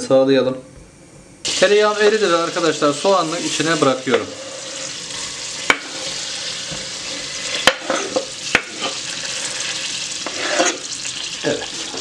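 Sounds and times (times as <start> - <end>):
onion sizzling in butter: 1.5 - 12.0.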